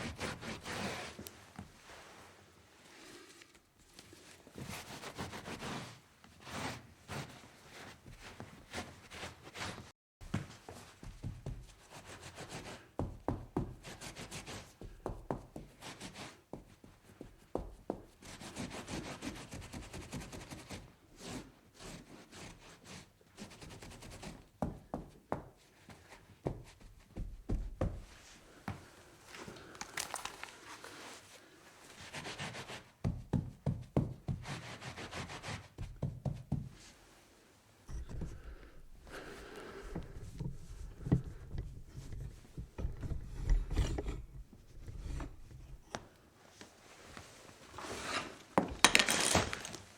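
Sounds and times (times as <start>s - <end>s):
rubbing and wiping a surface: 0.0s - 29.4s, 30.6s - 43.5s.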